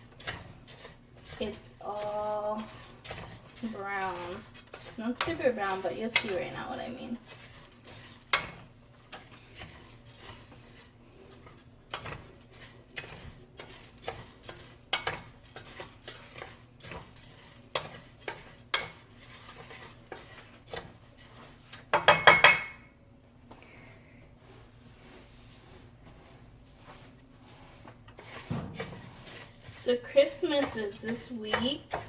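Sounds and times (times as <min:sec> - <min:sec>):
light sizzle: 0:00.0 - 0:22.0, 0:27.2 - 0:32.0
spoon scraping a pot: 0:00.0 - 0:22.9, 0:26.9 - 0:32.0.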